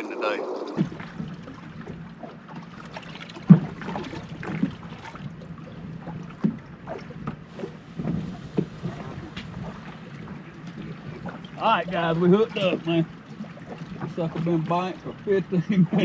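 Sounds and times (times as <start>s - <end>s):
water slapping against boat hull: 0.0s - 16.0s.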